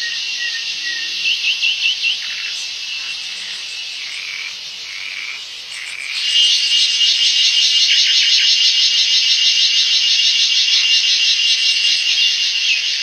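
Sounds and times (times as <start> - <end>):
forest insects chorus: 0.0 - 13.0.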